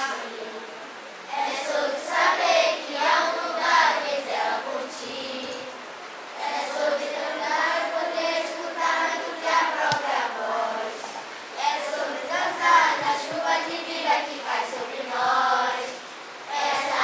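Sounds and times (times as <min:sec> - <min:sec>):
children singing together: 0:00.0 - 0:05.8, 0:06.4 - 0:17.0.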